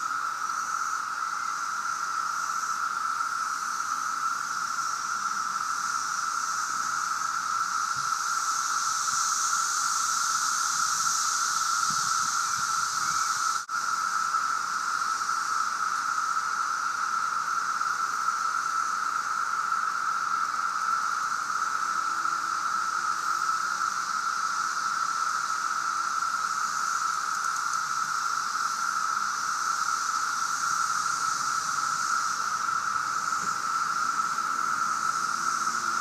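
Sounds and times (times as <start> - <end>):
cicadas chorus drone: 0.0 - 36.0.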